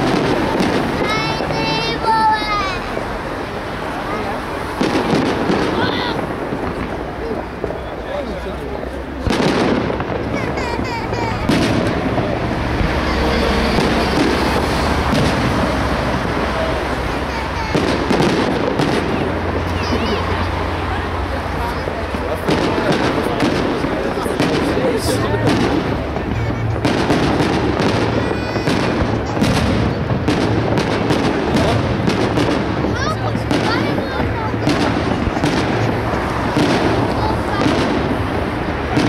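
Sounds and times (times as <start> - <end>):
background noise: 0.0 - 39.0
firework bang: 0.0 - 39.0.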